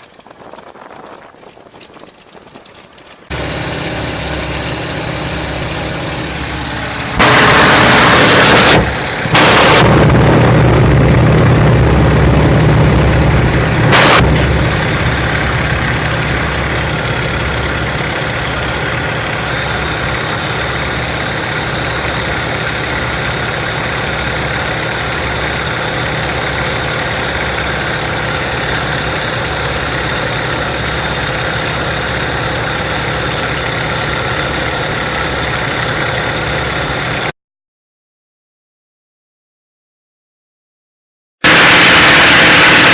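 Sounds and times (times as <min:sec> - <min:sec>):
radial aircraft engine idling: 0:00.0 - 0:37.3, 0:41.4 - 0:42.9.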